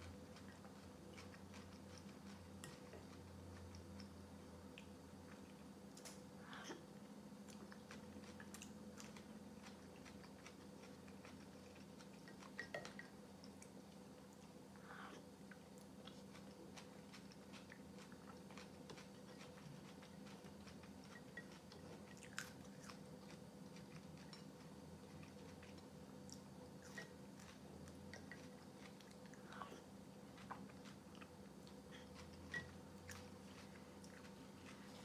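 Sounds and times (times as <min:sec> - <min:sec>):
chewing and crunching: 0:00.0 - 0:35.0
faint steady hum: 0:00.0 - 0:35.0.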